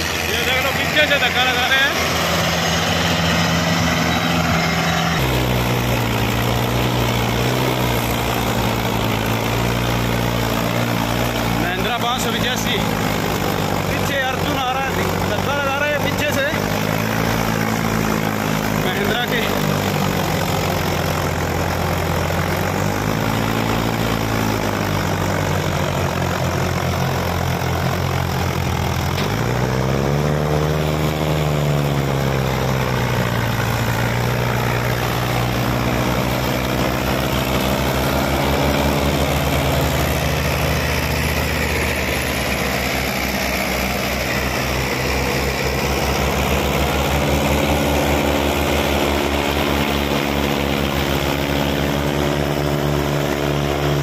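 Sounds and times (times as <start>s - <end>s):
diesel tractor engines under load: 0.0s - 54.0s.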